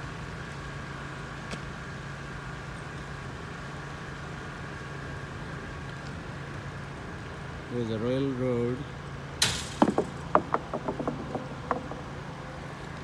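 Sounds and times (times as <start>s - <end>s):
distant engines droning: 0.0s - 13.0s.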